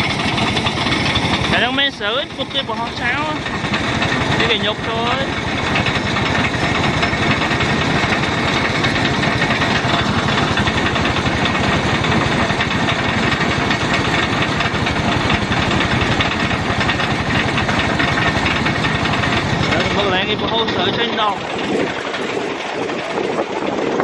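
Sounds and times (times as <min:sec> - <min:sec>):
threshing machine clattering: 0:00.0 - 0:24.0.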